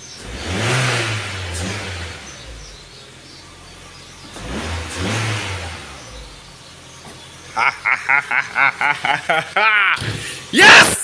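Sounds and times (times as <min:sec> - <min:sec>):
car engine idling and revving: 0:00.0 - 0:10.6.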